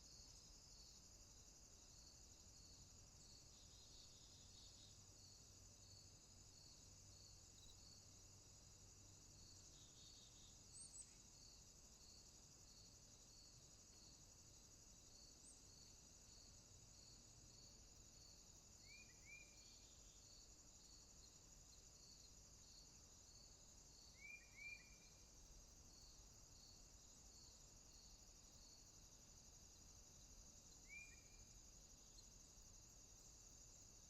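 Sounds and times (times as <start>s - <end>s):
insects trilling: 0.0s - 34.0s
pulsing insect chirp: 0.0s - 34.0s.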